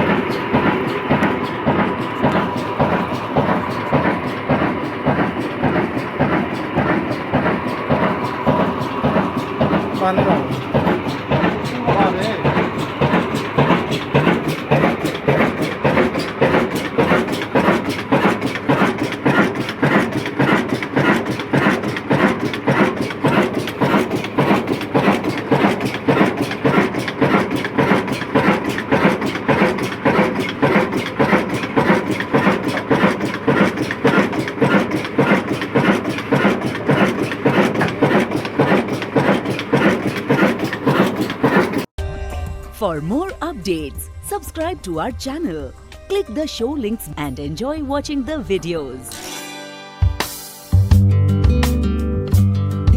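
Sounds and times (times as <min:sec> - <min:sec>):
diesel engine rhythmic beat: 0:00.0 - 0:49.1.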